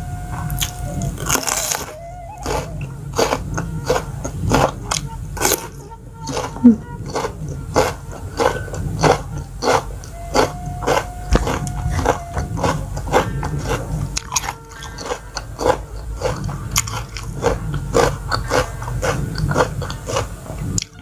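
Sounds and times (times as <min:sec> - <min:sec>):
person chewing crunchy food: 0:00.5 - 0:21.0.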